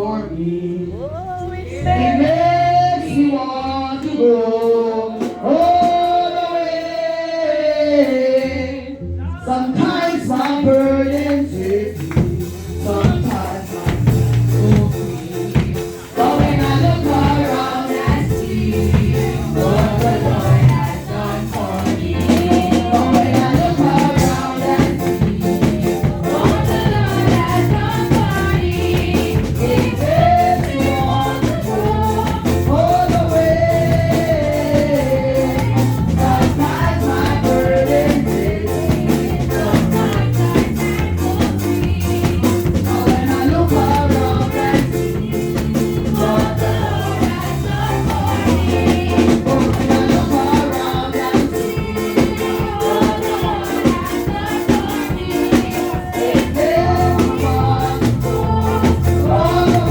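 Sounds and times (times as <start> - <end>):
gospel singing: 0.0 - 59.9
percussion beat: 4.0 - 7.1, 9.7 - 59.9
bass line: 8.6 - 55.3, 56.3 - 59.9.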